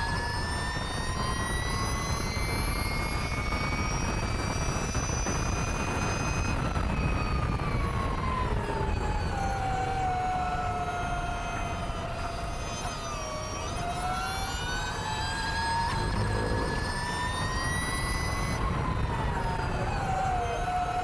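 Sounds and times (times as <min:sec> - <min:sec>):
electric motorcycle motor whining: 0:00.0 - 0:21.0.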